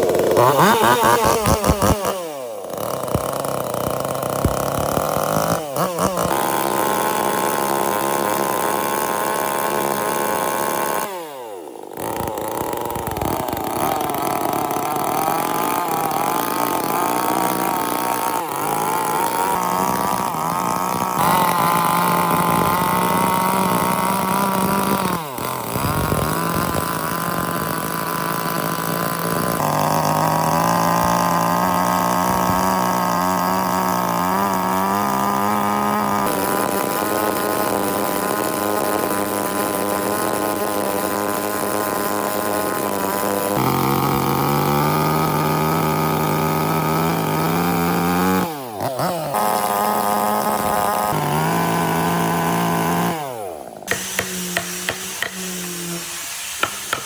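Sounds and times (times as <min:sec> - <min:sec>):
motor spinning down: 0:00.0 - 0:57.0
power tool motors on wood: 0:00.0 - 0:57.0.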